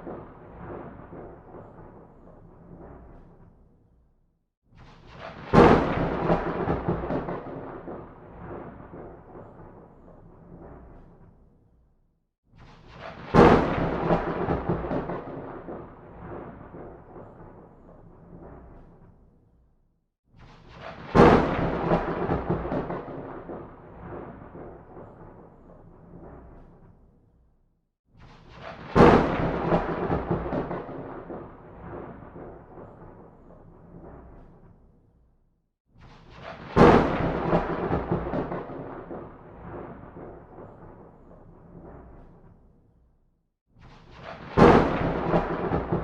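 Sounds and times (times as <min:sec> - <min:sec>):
thunderclap: 0:00.0 - 0:03.7, 0:04.8 - 0:11.5, 0:12.6 - 0:19.3, 0:20.4 - 0:27.1, 0:28.2 - 0:34.9, 0:36.0 - 0:42.6, 0:43.8 - 0:46.0.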